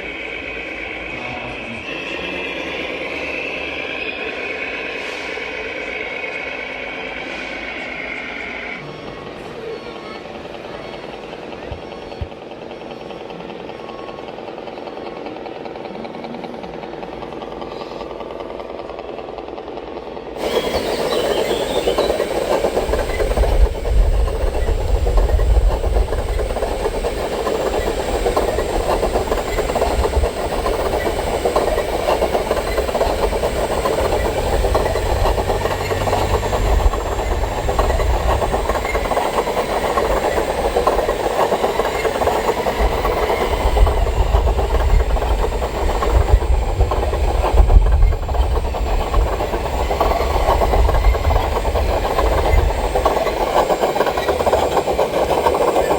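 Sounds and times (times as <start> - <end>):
machine running with rattling: 10.3 - 55.9.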